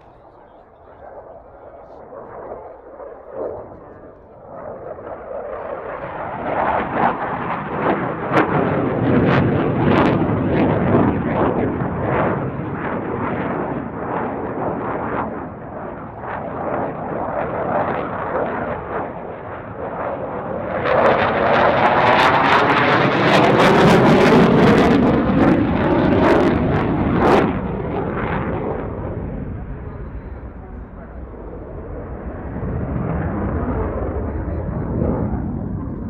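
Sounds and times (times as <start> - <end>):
jet engine crackling roar: 0.0 - 36.0.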